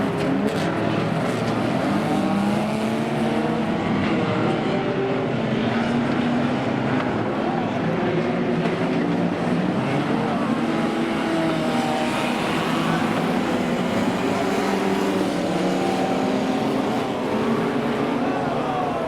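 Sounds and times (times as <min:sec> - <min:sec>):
racing car engines running: 0:00.0 - 0:19.0.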